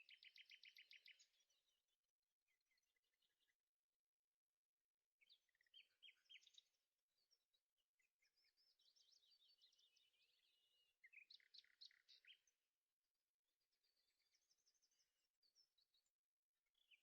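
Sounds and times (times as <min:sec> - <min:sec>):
faint birdsong chirps and trills: 0:00.0 - 0:17.0.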